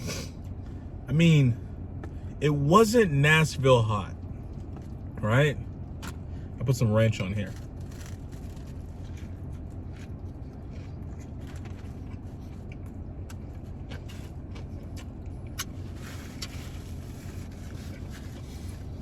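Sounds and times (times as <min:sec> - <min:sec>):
car idling: 0:00.0 - 0:19.0.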